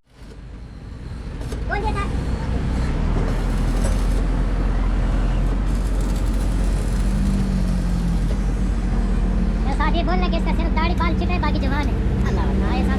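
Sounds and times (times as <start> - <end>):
large vehicle engine rumbling: 0.1 - 12.9.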